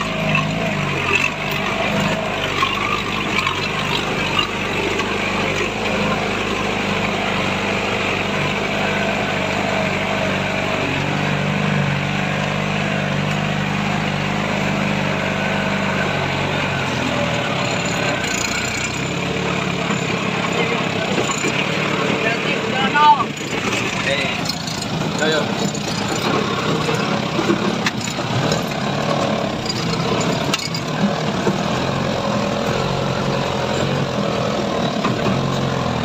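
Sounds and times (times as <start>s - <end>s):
vehicle engine at low revs: 0.0s - 36.0s.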